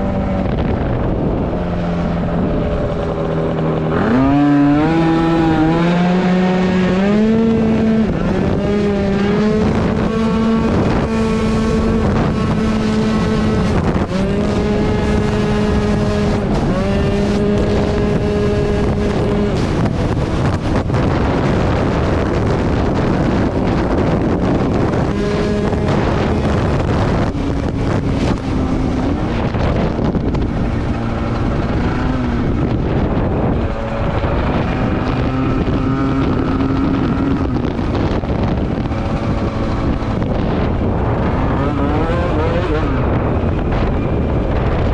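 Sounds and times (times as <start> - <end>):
scooter engine revving: 0.0 - 44.9
wind buffeting microphone: 0.0 - 44.9.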